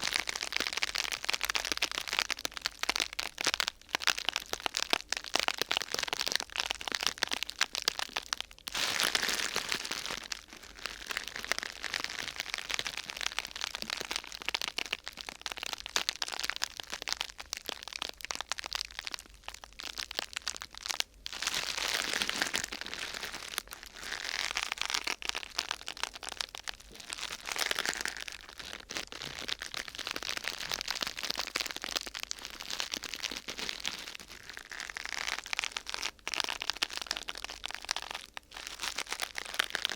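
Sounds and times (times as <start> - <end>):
sheet material crumpled by hand: 0.0 - 39.9.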